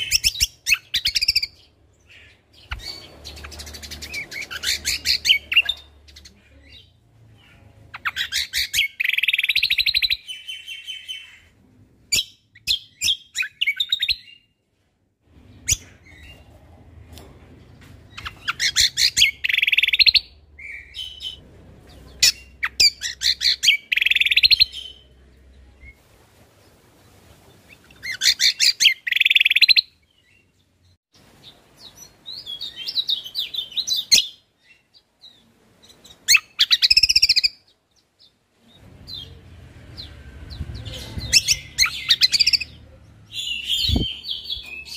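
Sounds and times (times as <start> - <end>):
songbird chirps and trills: 0.0 - 14.6, 15.3 - 44.9.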